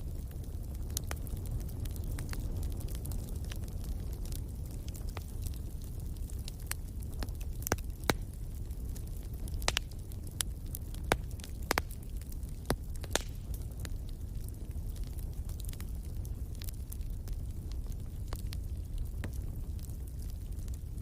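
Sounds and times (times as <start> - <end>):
logs popping and crackling: 0.0 - 21.0
low rumble of flames: 0.0 - 21.0.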